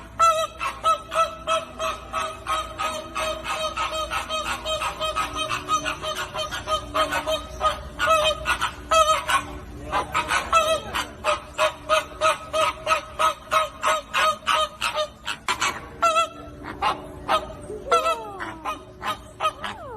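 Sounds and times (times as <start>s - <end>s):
flamingos honking: 0.0s - 19.9s.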